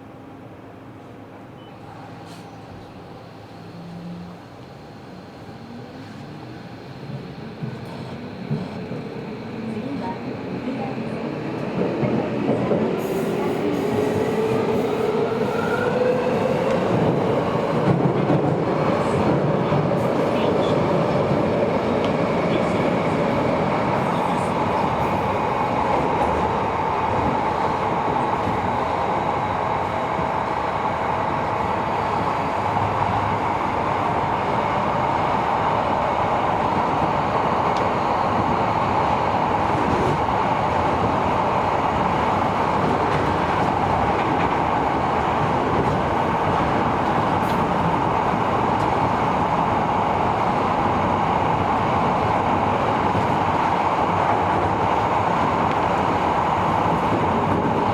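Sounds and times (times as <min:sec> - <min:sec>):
train wheels rumbling on rail: 0:01.9 - 0:57.9.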